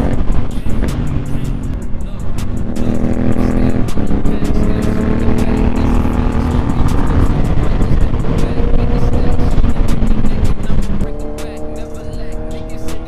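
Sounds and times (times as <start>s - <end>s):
rushing wind noise: 0.0s - 12.3s
motorcycle engine running: 0.0s - 13.0s.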